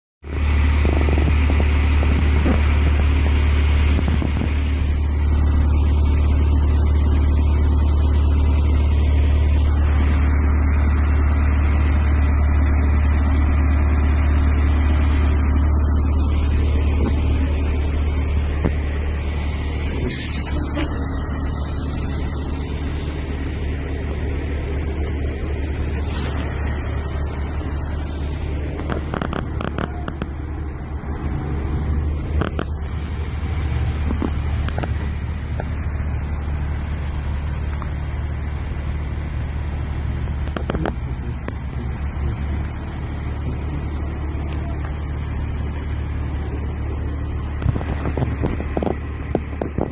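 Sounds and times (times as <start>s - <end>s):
heavy vehicle engine droning: 0.2s - 49.9s.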